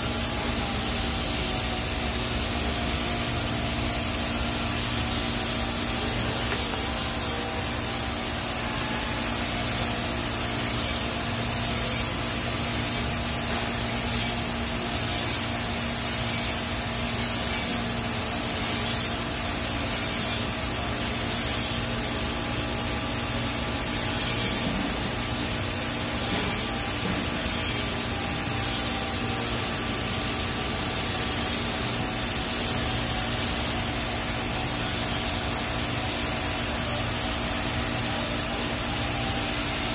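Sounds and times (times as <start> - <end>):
welding arc hiss: 0.0 - 39.9.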